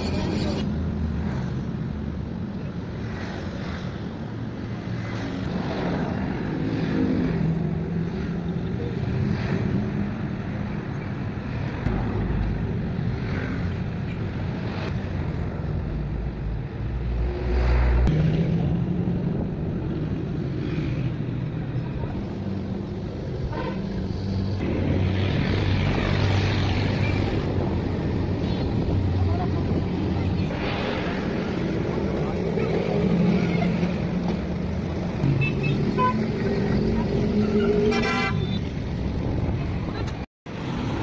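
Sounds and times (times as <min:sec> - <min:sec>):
vehicle engines passing: 0:00.0 - 0:41.0.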